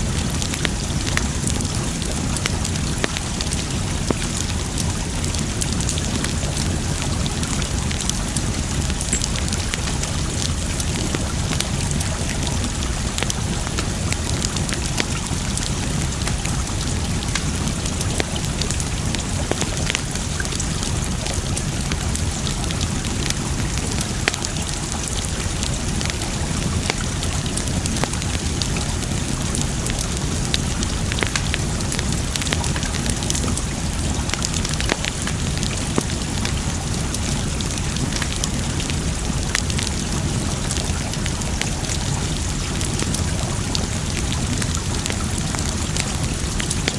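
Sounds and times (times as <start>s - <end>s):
campfire crackling and popping: 0.0s - 46.9s
running water rushing: 0.0s - 46.9s.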